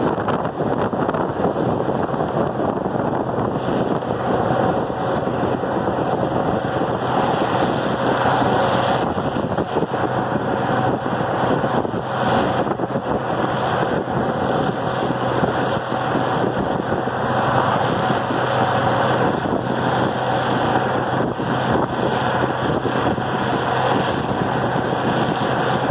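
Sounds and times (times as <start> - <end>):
tractor diesel engine running: 0.0 - 25.9
wind on microphone: 0.0 - 25.9.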